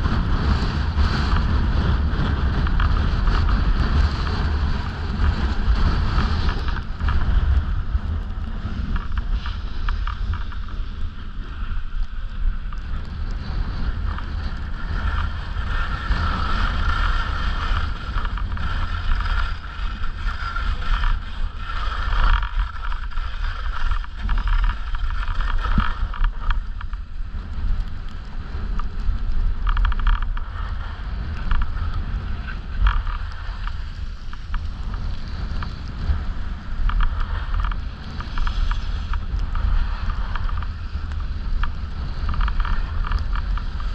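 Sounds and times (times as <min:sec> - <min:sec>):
skis scraping over snow: 0:00.0 - 0:43.9
wind buffeting microphone: 0:00.0 - 0:43.9.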